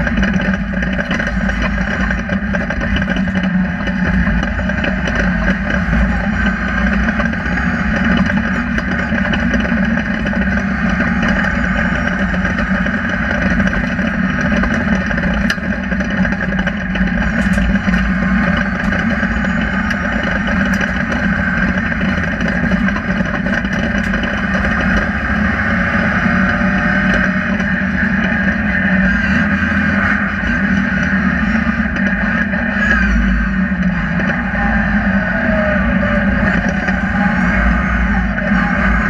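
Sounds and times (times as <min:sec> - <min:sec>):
car engine running at speed: 0:00.0 - 0:39.0.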